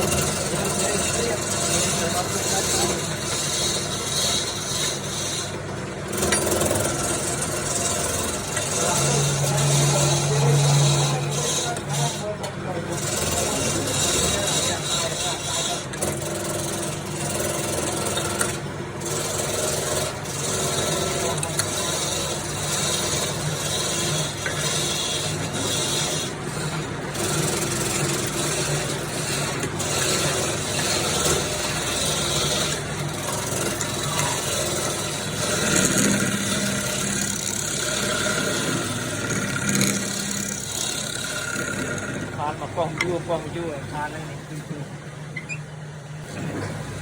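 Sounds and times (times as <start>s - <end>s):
turning tool cutting wood: 0.0s - 45.6s
lathe motor running: 0.0s - 47.0s.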